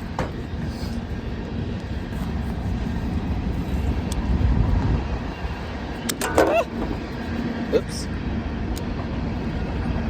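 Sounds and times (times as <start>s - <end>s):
passing train rumble: 0.0s - 10.0s.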